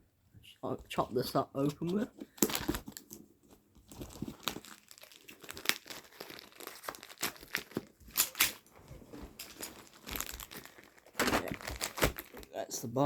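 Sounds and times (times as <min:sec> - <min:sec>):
packaging crinkling and tearing: 0:01.8 - 0:12.7.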